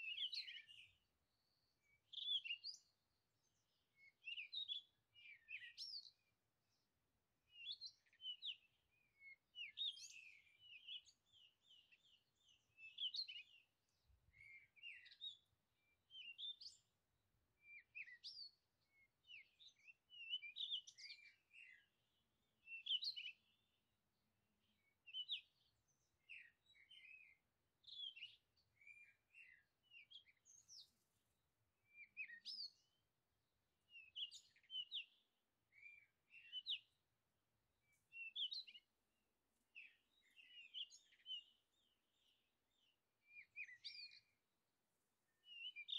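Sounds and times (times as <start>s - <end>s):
songbirds singing: 0.0s - 45.9s.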